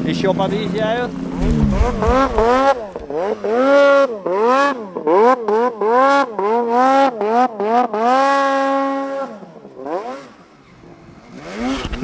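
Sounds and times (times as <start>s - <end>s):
snowmobile engine revving: 0.1s - 12.0s.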